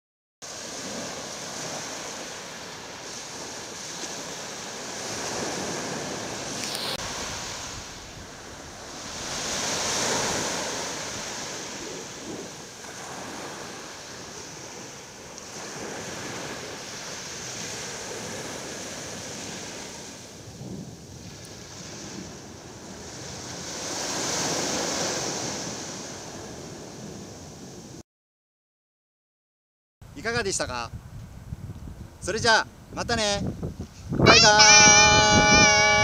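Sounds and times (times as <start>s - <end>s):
surf breaking on beach: 0.4s - 28.0s, 34.1s - 36.0s
wind on microphone: 0.6s - 28.0s, 30.9s - 36.0s.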